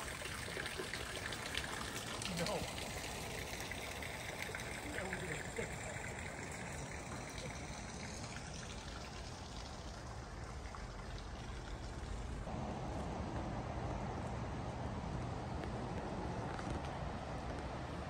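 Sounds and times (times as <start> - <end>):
running water: 0.0 - 18.0.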